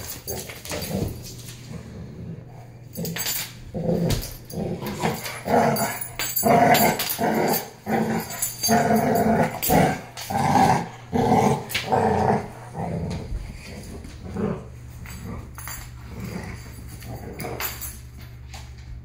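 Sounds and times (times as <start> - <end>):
puppies growling: 0.0 - 18.2.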